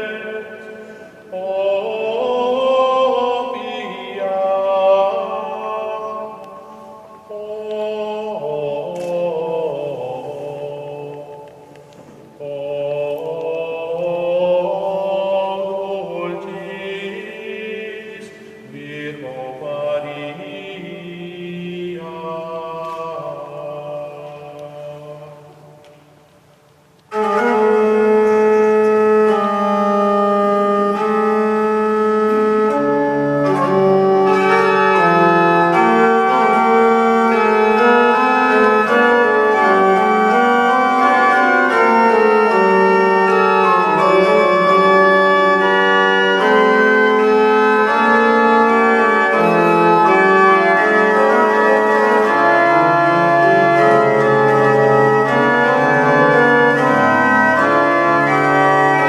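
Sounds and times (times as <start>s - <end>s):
organ music: 0.0s - 59.0s.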